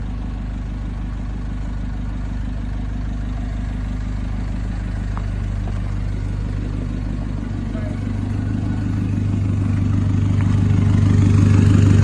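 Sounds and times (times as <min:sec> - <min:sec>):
diesel engine exhaust idling: 0:00.0 - 0:12.0.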